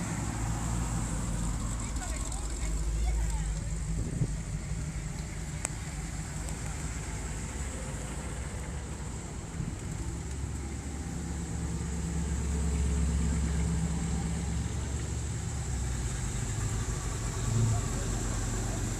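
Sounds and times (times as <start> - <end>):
car engine rumbling: 0.0 - 18.9.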